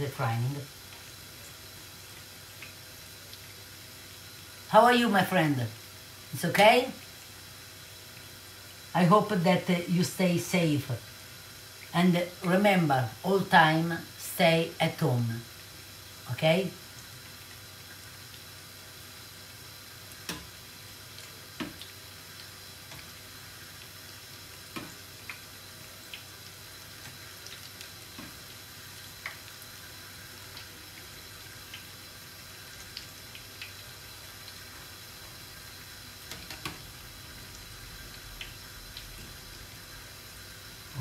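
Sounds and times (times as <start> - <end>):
fritters sizzling in oil: 0.0 - 41.0.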